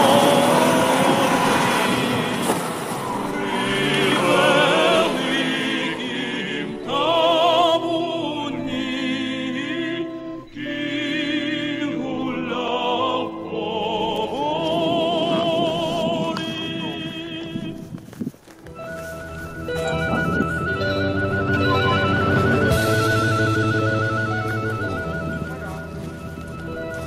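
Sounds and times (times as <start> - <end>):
operatic music: 0.0 - 17.4, 18.7 - 27.0.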